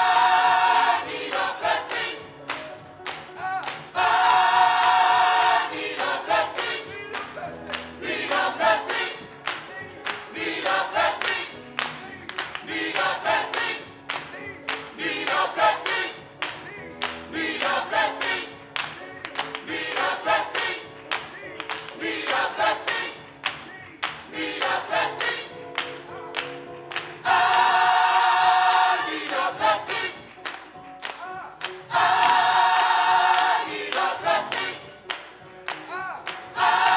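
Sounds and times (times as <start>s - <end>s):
choir singing gospel music: 0.0s - 36.9s
instrumental accompaniment: 0.0s - 36.9s.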